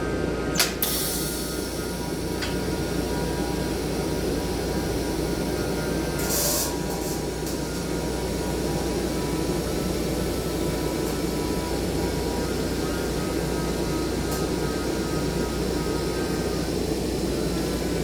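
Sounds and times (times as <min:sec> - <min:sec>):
machine hum with faint whine: 0:00.0 - 0:18.0.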